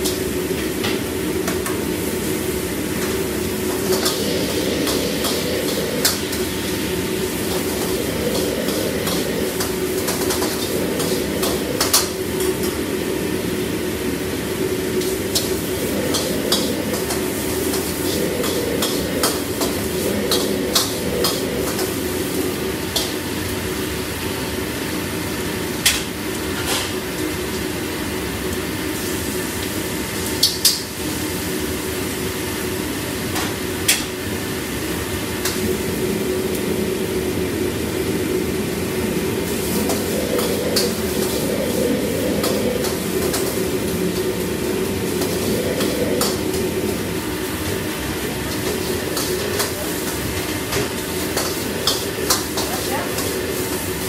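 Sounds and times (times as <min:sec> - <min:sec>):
wok burner roaring: 0:00.0 - 0:54.0.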